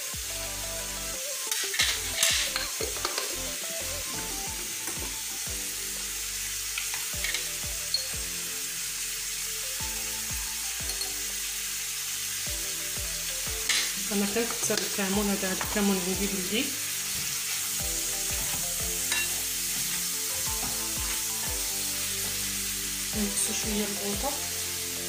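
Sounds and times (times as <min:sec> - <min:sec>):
liver sizzling in oil: 0:00.0 - 0:25.0.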